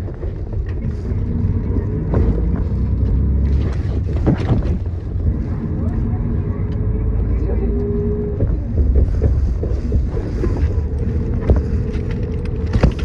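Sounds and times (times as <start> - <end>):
bus body rattling and knocking: 0.0 - 13.0
bus engine and road drone: 0.0 - 13.0.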